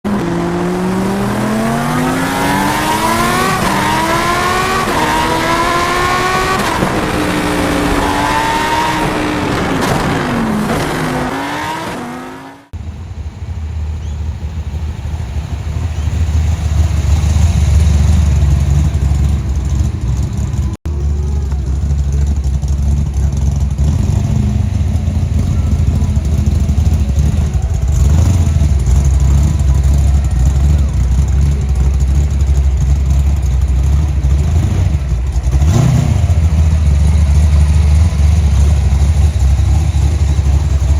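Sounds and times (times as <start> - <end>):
car engine accelerating through gears: 0.0 - 12.8, 16.0 - 40.9
car engine idling and burbling: 0.0 - 40.9.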